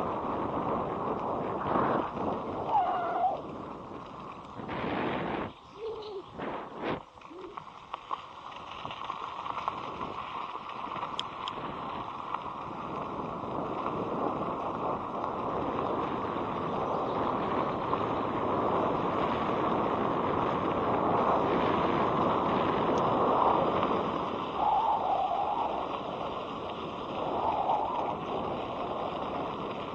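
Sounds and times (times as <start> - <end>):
wind noise on microphone: 0.0 - 29.9.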